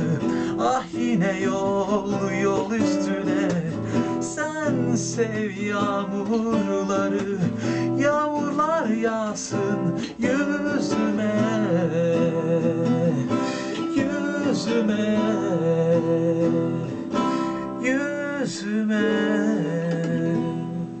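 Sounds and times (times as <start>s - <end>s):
acoustic guitar: 0.0s - 21.0s
wordless melodic voice: 0.0s - 21.0s.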